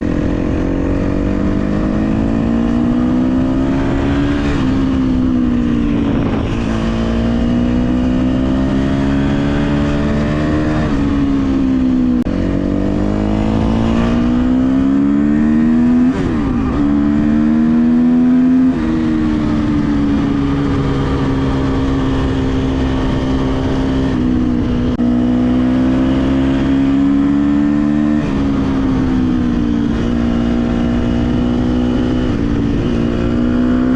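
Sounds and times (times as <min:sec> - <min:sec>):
motocross bike engine revving: 0:00.0 - 0:11.2, 0:11.8 - 0:33.9.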